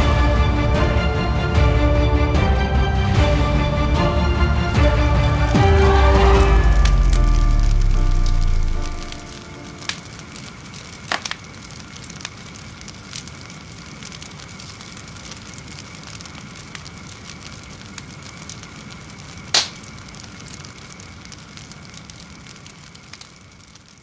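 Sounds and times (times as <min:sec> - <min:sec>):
bonfire crackling and popping: 0:00.0 - 0:24.0.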